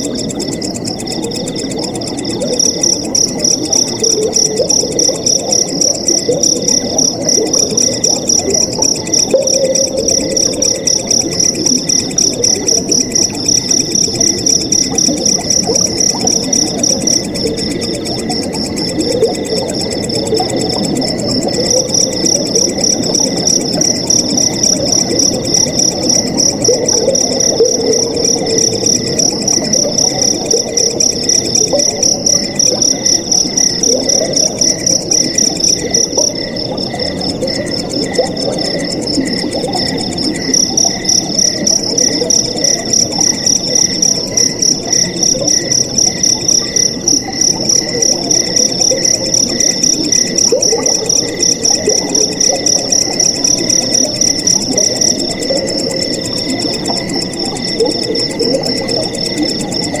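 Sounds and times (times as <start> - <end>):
crickets chirping: 0.0 - 60.0
flowing water bubbling: 0.0 - 60.0.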